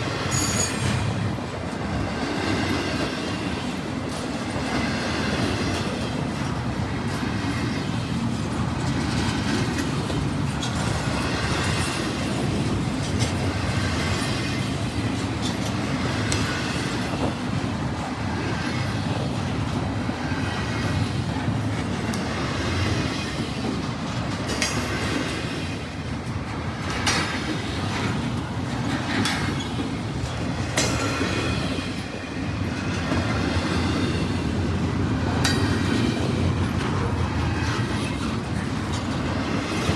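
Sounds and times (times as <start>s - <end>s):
freight train rumbling past: 0.0s - 39.9s
wheels clacking over rail joints: 0.1s - 39.9s.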